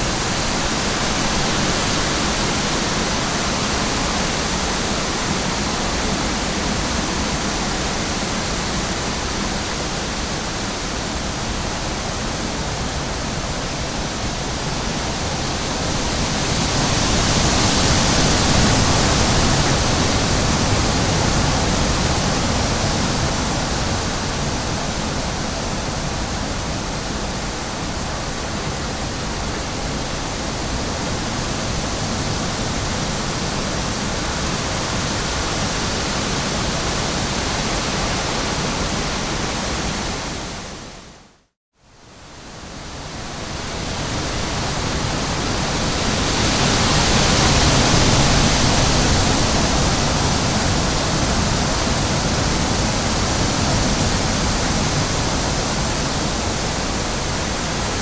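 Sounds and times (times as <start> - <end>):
steady rushing noise: 0.0 - 41.4, 42.0 - 58.0.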